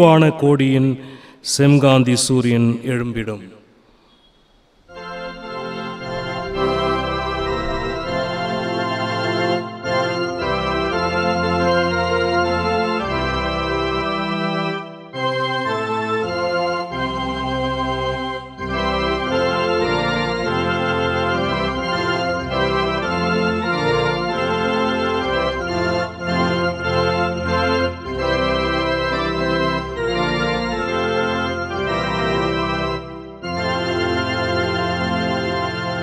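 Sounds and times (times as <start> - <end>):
electronic organ playing hymn chords: 4.8 - 36.0.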